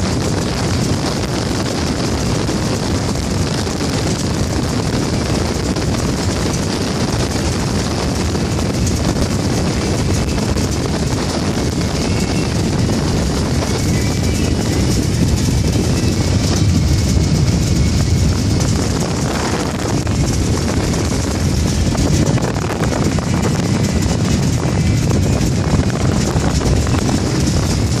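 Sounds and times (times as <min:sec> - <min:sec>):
motorboat engine rumbling: 0:00.0 - 0:28.0
wind buffeting microphone: 0:00.0 - 0:28.0.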